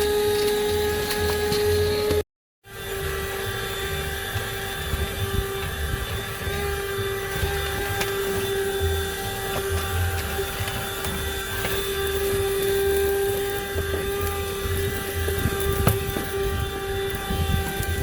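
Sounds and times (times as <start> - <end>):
handheld vacuum whining: 0.0 - 18.0.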